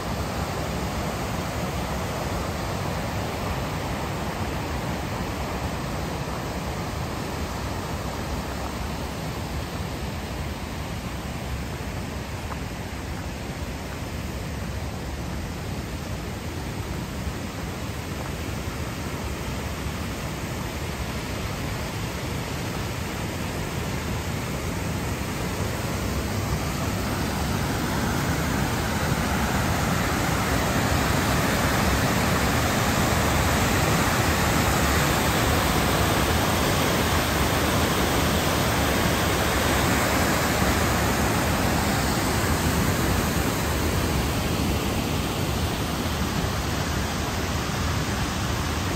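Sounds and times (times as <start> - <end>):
mountain torrent rushing: 0.0 - 48.9.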